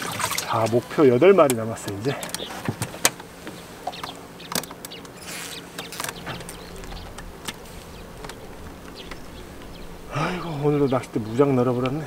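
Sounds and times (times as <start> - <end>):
faint steady hum: 0.0 - 12.0
light rustling: 1.8 - 12.0.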